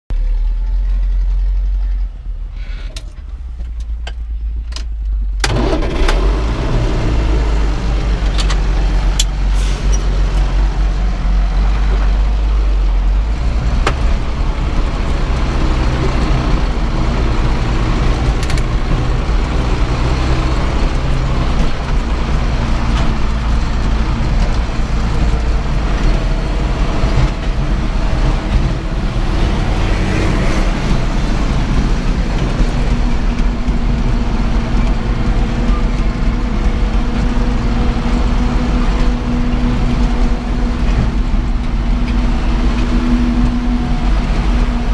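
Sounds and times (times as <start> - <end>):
tractor diesel engine drone: 0.1 - 44.9.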